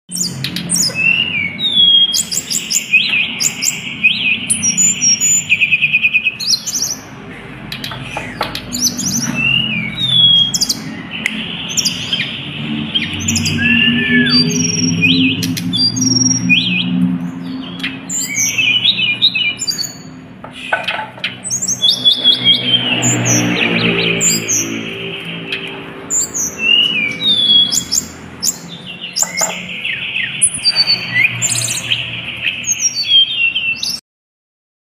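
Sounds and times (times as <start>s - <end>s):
bird singing high chirps and trills: 0.1s - 34.0s.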